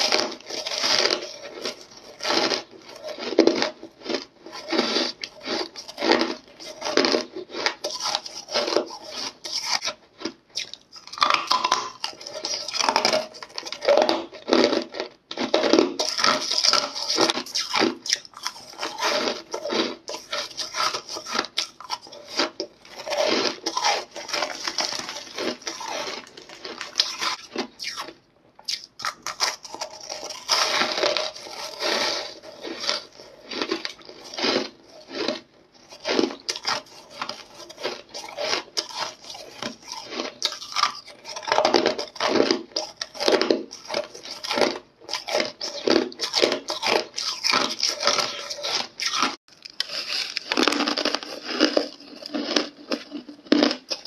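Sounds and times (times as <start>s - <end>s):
person crunching ice: 0.0s - 54.0s.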